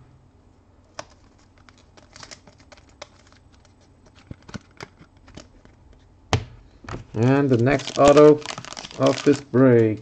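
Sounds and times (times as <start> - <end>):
cards and packaging handled: 0.9 - 6.1, 6.9 - 10.0.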